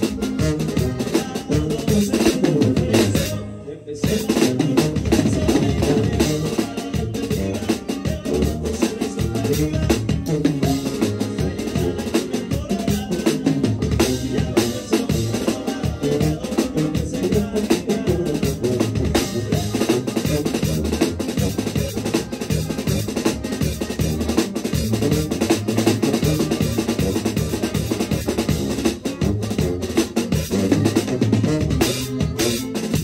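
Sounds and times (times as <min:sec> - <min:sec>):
live band playing: 0:00.0 - 0:33.0.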